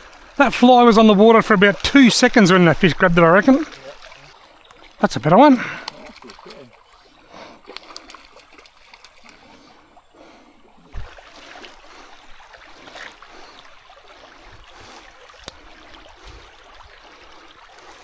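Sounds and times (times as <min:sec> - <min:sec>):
creek water trickling over stones: 0:00.0 - 0:18.0.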